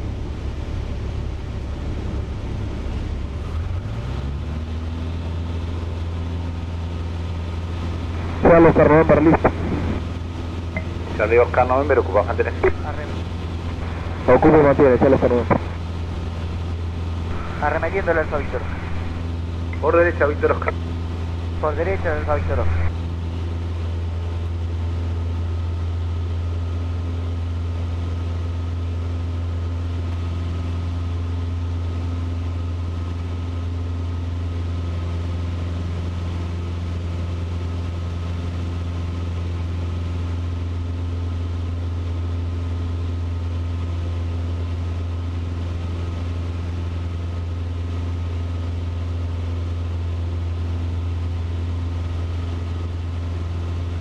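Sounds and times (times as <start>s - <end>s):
airplane engine droning in cabin: 0.0s - 54.0s.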